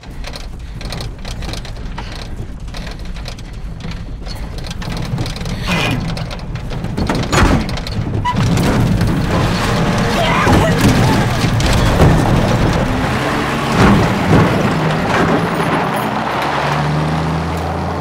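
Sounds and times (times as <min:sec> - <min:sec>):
pickup truck engine rumble: 0:00.0 - 0:18.0.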